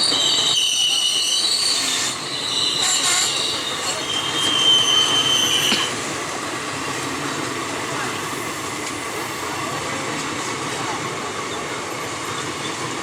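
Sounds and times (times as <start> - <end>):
train wheels squealing on rails: 0.0 - 13.0.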